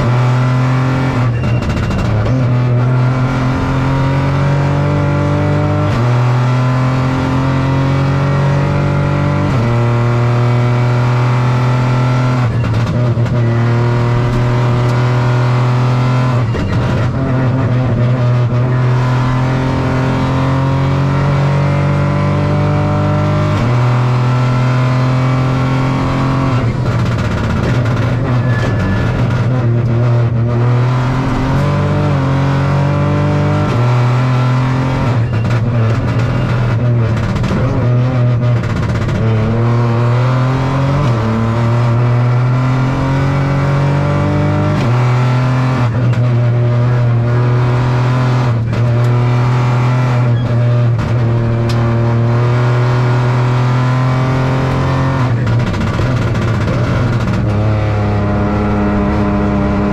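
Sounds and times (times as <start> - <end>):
engine revving and changing gear: 0.0 - 59.9
road and tyre noise: 0.0 - 59.9.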